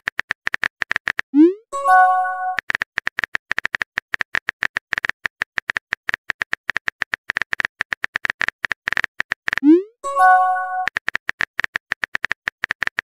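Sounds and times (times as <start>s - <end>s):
phone keyboard typing clicks: 1.9s - 13.0s.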